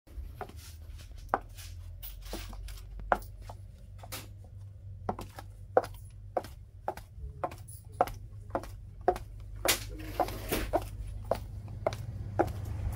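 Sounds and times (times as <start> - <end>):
low steady hum: 0.1 - 12.9
high heels clicking on hard floor: 2.3 - 12.9.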